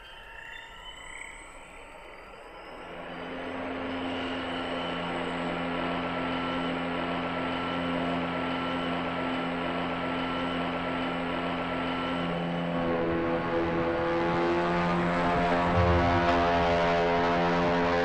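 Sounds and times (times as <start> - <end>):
helicopter rotors whirring: 2.4 - 18.0.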